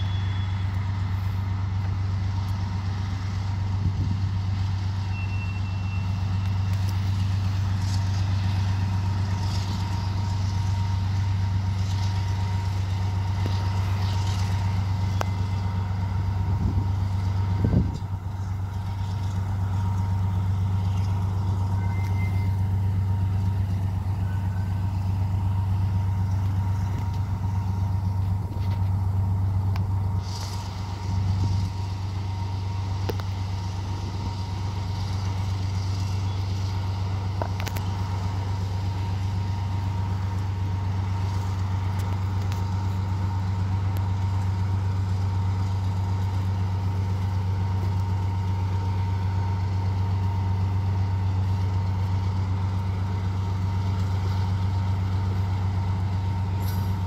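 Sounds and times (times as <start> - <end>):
diesel locomotive engine droning: 0.0 - 57.0.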